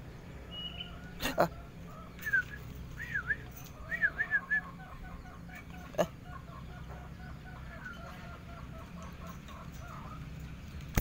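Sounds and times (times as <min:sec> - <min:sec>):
bird calls: 0:00.0 - 0:11.0.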